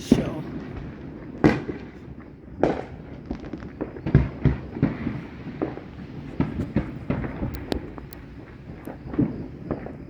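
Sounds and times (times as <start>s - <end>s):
fireworks bangs and pops: 0.0s - 10.0s
fireworks crackling: 0.0s - 10.0s.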